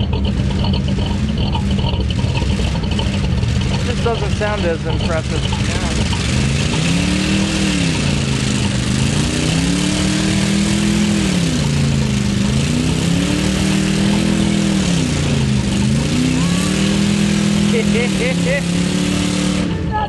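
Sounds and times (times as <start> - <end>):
steady rushing noise: 0.0 - 20.0
truck engine revving hard: 0.0 - 20.0.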